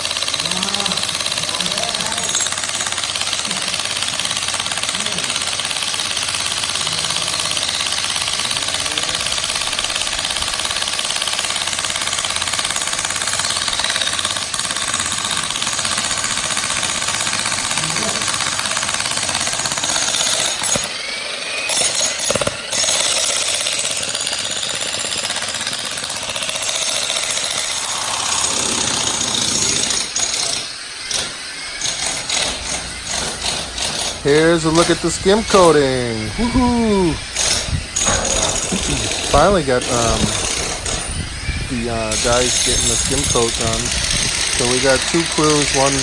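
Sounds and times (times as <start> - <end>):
jackhammer breaking ground: 0.0 - 46.0.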